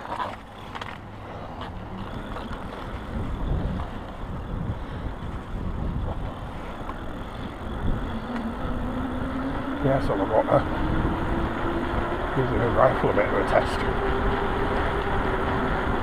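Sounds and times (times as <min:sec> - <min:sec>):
wind buffeting microphone: 0:00.7 - 0:16.0.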